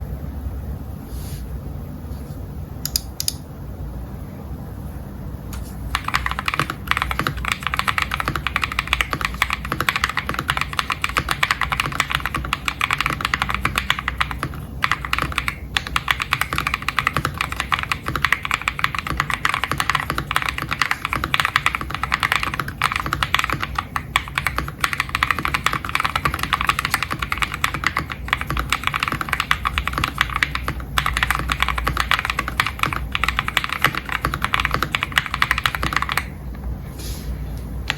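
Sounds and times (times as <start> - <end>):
fast mechanical keyboard typing: 5.9 - 36.4.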